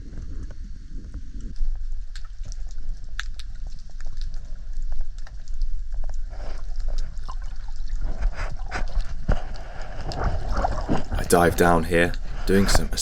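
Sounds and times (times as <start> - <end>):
low rumble of moving water: 0.0 - 11.3
underwater clicks and crackles: 0.0 - 13.0.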